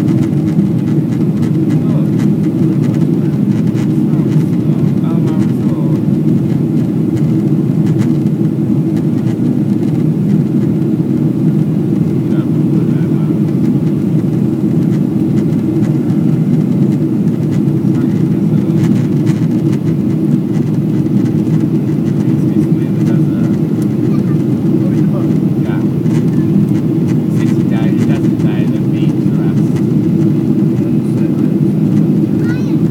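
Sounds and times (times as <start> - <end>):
airplane cabin drone: 0.0 - 32.9.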